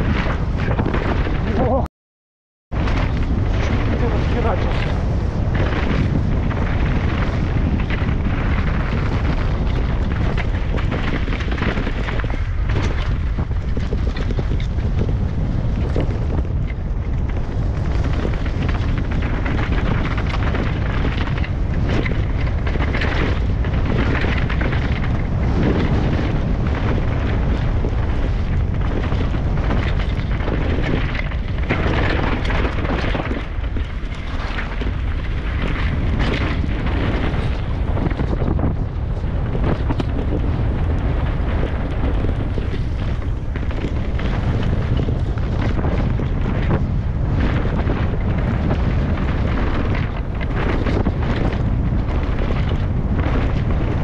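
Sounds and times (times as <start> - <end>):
wind buffeting microphone: 0.0 - 1.9, 2.7 - 54.0
knocks and rattles: 2.7 - 54.0.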